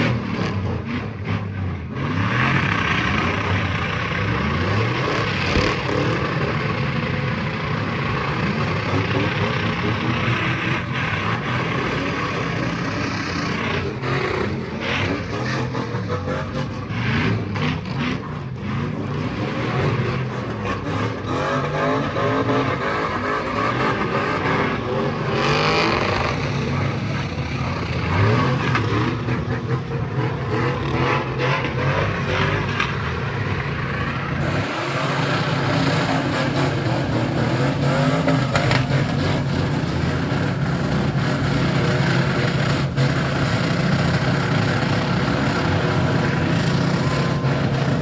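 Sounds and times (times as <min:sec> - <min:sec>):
car engine revving hard: 0:00.0 - 0:48.0.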